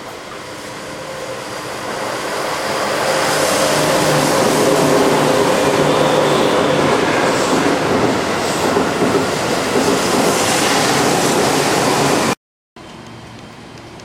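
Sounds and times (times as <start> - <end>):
electric train rumbling on track: 0.0 - 14.0.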